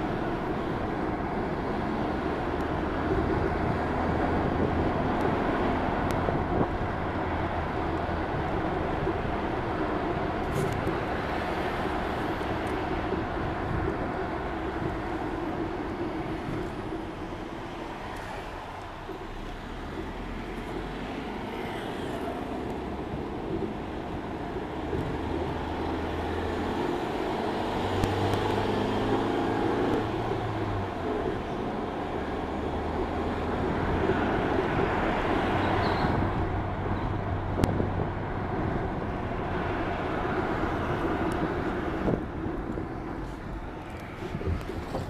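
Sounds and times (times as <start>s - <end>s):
vehicle engine and tyre rumble: 0.0s - 45.0s.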